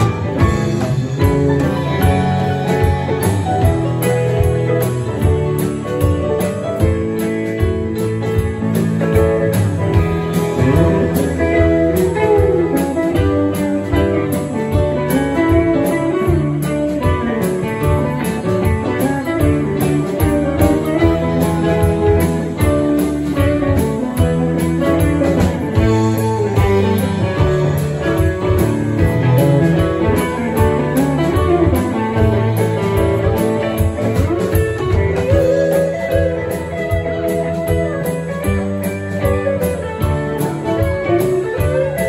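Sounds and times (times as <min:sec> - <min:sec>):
drum kit: 0:00.0 - 0:42.0
electric bass: 0:00.0 - 0:42.0
electric guitars: 0:00.0 - 0:42.0.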